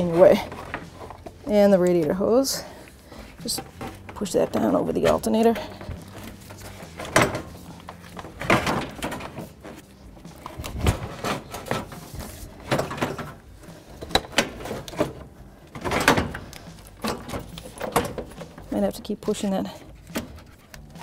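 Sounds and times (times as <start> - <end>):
metal knocks clunks and scrapes: 0.0 - 1.7, 2.6 - 21.0.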